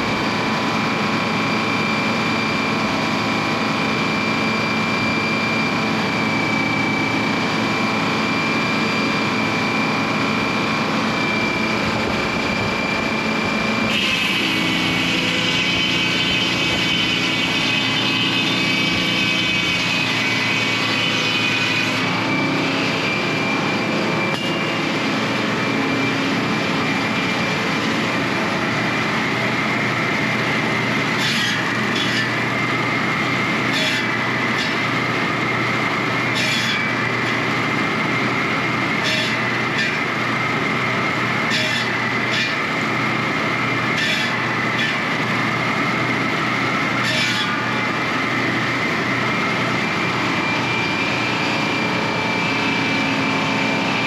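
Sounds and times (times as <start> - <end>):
machine engine whining: 0.0 - 54.0.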